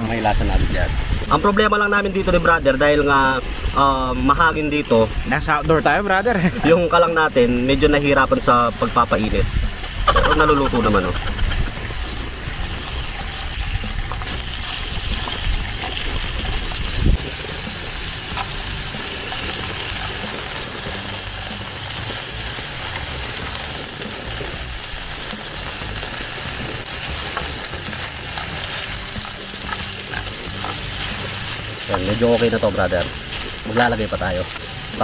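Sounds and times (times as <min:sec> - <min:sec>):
wind rumbling on microphone: 0:00.0 - 0:06.3, 0:07.3 - 0:33.8
meat sizzling on grill pan: 0:00.0 - 0:35.0.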